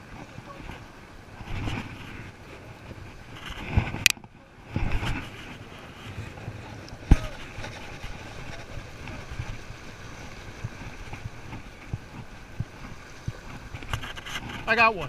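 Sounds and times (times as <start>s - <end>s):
waves washing against rocks: 0.0s - 15.0s
wind on microphone: 0.0s - 15.0s.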